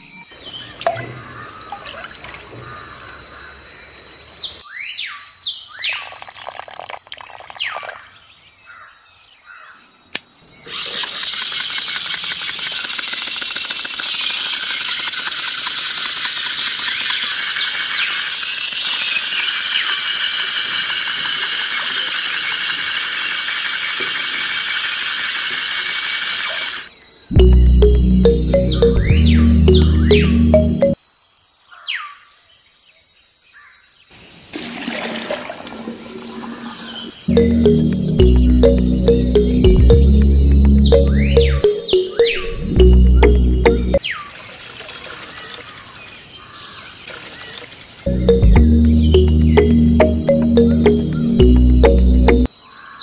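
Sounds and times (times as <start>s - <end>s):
dense chirping of insects: 0.0s - 25.2s, 26.4s - 53.0s.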